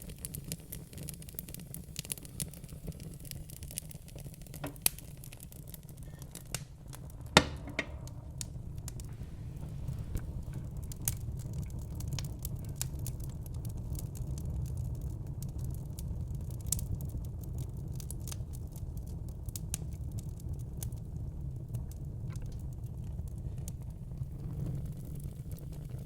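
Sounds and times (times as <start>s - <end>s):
sharp pops and snaps of fire: 0.0s - 26.0s
wood fire crackling: 0.0s - 26.0s.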